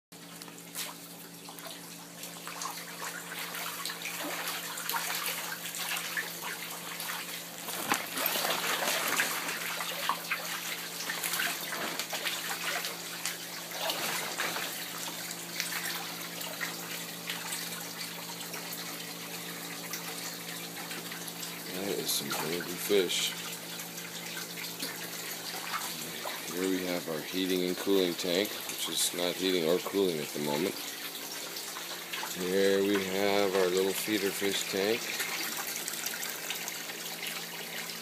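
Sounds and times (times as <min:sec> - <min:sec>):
water trickling and splashing: 0:00.2 - 0:38.0.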